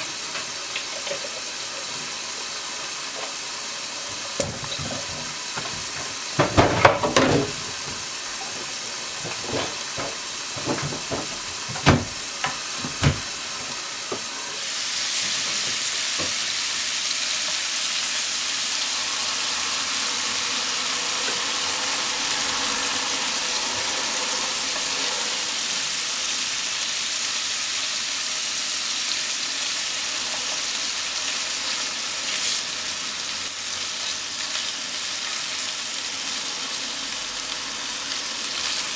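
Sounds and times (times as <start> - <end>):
food sizzling in oil: 0.0 - 38.9.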